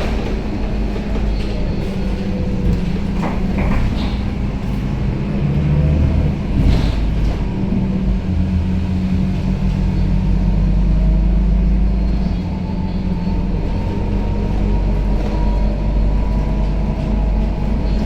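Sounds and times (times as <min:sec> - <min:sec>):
bus engine drone: 0:00.0 - 0:18.0
road rumble: 0:00.0 - 0:18.0.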